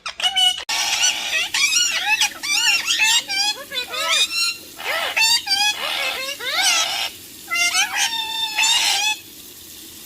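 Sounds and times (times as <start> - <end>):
parrot calling: 0.0 - 9.3.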